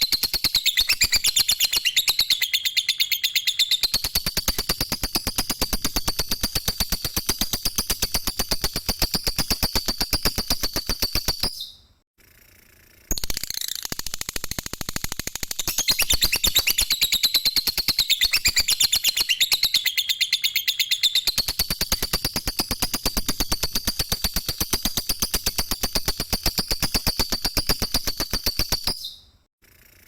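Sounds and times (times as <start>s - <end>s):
lovebird rapid chattering song: 0.0s - 11.7s, 13.1s - 29.4s.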